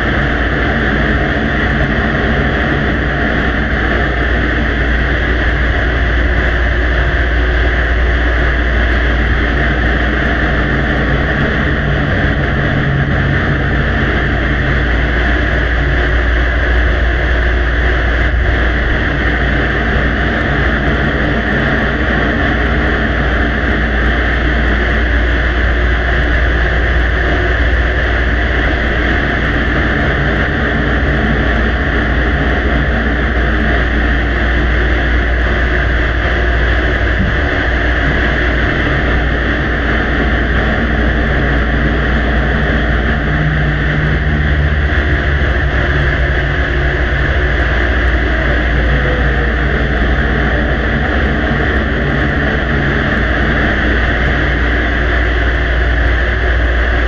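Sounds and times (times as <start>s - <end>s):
droning rumble and hiss: 0.0s - 57.0s
low hum: 0.0s - 57.0s.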